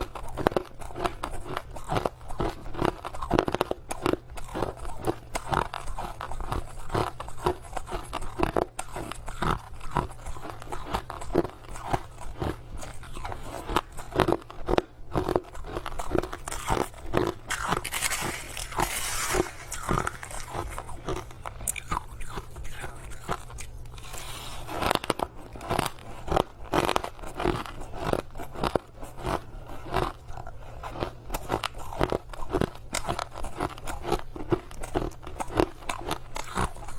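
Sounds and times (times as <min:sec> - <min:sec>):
crushed ice being chewed: 0:00.0 - 0:36.9.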